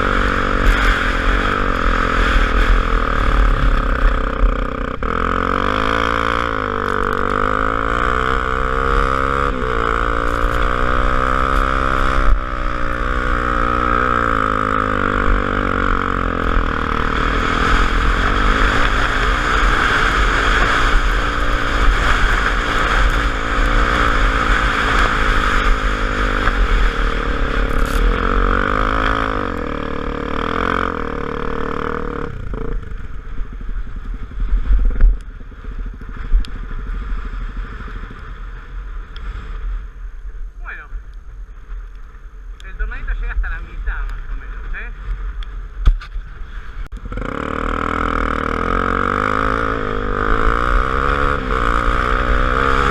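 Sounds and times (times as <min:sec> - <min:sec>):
motorcycle engine revving: 0:00.0 - 0:40.9, 0:42.6 - 0:52.9
steady rushing noise: 0:00.0 - 0:52.9.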